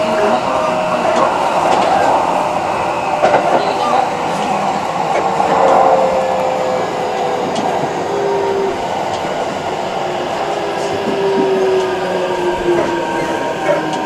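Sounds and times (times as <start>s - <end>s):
electric train rumble: 0.0s - 14.0s
traction motor whine: 0.0s - 14.0s.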